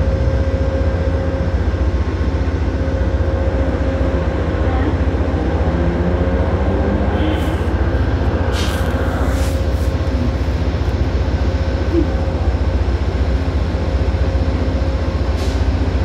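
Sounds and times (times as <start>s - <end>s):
train idling rumble: 0.0s - 6.4s, 7.3s - 16.0s.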